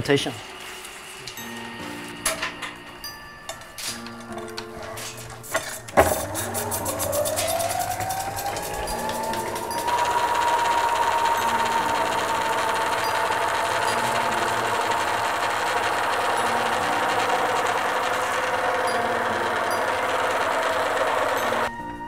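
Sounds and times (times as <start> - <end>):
film reel machinery whining: 0.0 - 21.7.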